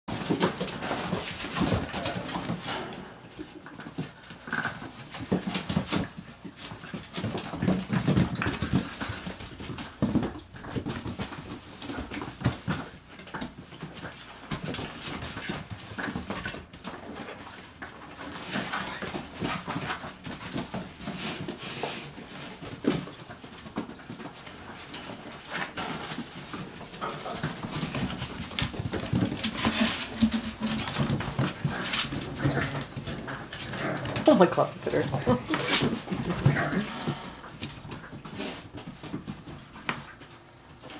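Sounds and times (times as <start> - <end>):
paws scrabbling on pen floor: 0.0 - 40.9.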